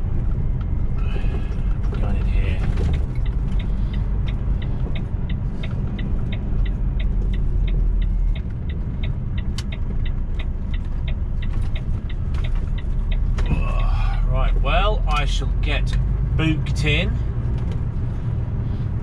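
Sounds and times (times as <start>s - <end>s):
diesel engine low rumble: 0.0s - 19.0s
turn indicator ticking: 0.1s - 19.0s.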